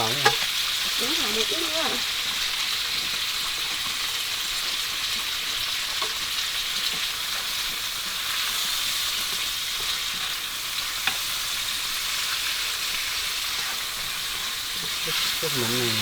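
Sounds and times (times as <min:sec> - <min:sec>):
mushrooms sizzling in a pan: 0:00.0 - 0:16.0.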